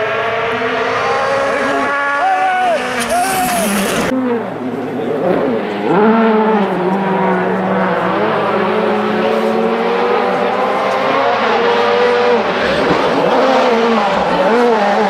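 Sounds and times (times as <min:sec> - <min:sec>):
rally car engine revving hard: 0:00.0 - 0:15.0.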